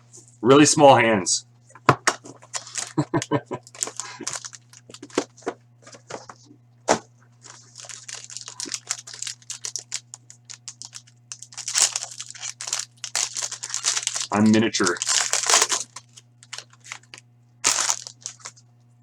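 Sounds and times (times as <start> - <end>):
packaging tearing and crinkling: 2.2 - 6.3, 6.9 - 18.6.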